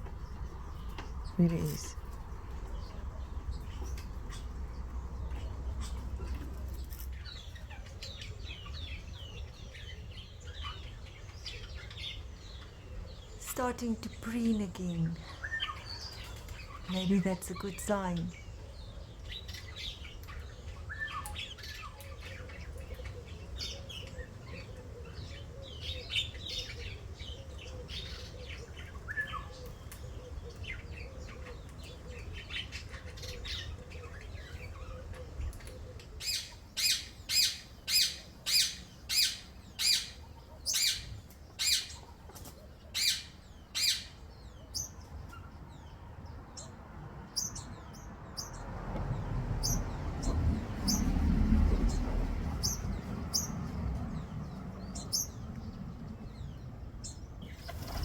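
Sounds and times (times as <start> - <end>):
garden birds chirping: 0.0 - 58.0.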